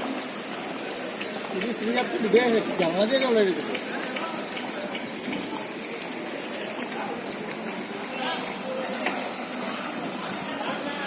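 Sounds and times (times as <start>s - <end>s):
faint voices: 0.0s - 11.0s
flood water rushing: 0.0s - 11.0s.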